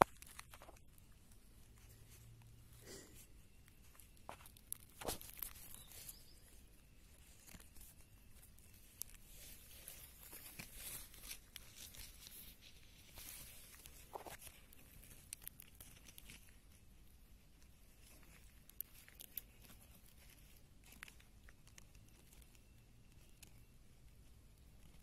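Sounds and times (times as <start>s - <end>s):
soft rustles and clicks: 0.0s - 25.0s.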